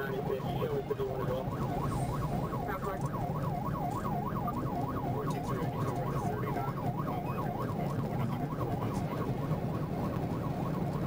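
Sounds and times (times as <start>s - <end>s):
car engine and road noise: 0.0s - 11.0s
police siren yelping: 0.0s - 11.0s.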